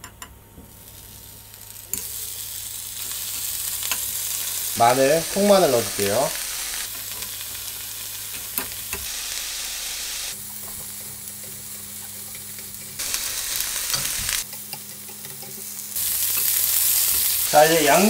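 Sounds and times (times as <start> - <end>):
meat sizzling in a frying pan: 0.7 - 18.0.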